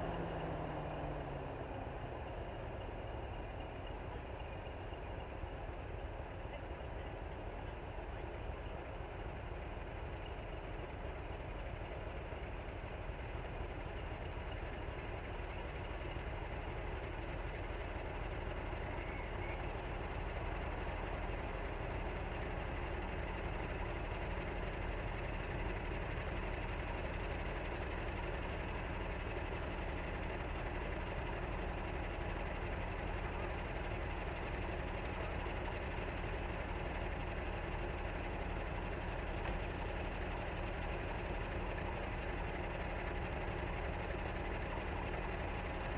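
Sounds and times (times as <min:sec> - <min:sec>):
diesel locomotive engine running: 0:00.0 - 0:45.9.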